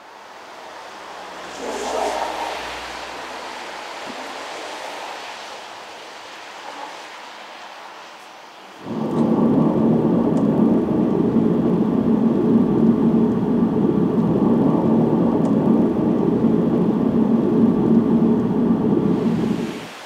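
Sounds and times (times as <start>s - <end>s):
car tyre and engine drone: 0.0s - 20.0s.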